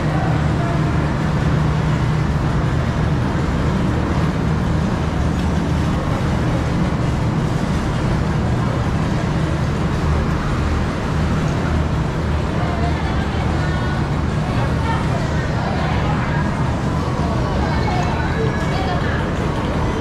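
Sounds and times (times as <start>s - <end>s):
city road traffic: 0.0s - 20.0s.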